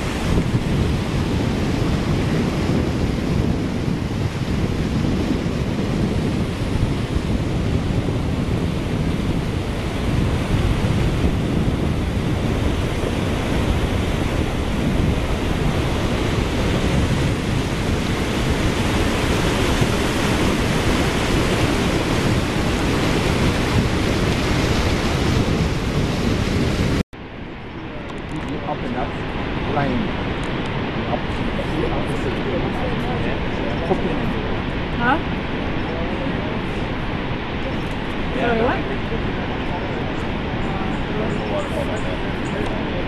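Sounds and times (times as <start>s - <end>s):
waterfall roaring: 0.0s - 43.0s.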